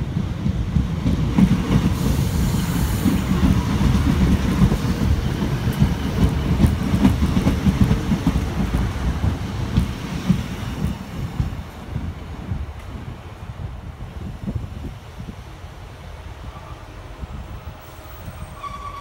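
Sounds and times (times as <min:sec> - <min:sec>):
diesel train passing: 0:00.0 - 0:19.0.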